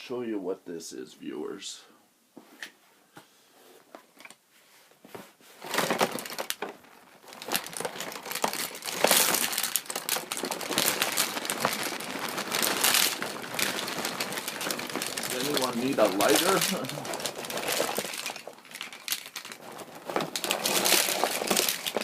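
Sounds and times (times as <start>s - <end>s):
rustling: 3.6s - 22.0s.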